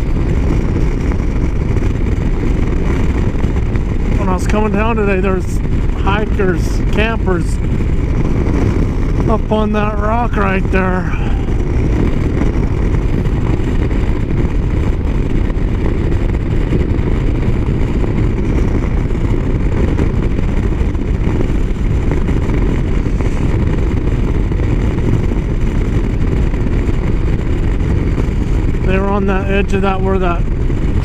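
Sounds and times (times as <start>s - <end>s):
motorcycle engine running: 0.0s - 31.0s
wind rush over microphone: 0.0s - 31.0s.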